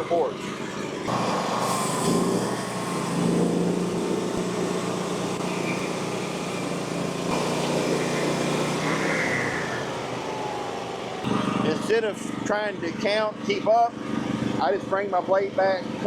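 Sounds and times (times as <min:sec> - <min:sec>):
bandsaw sawmill droning: 0:00.6 - 0:13.7.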